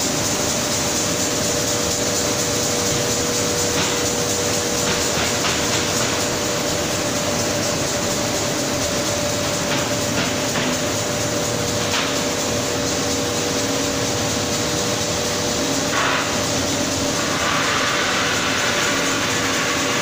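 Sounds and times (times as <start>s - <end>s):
conveyor machine whirring: 0.0s - 20.0s.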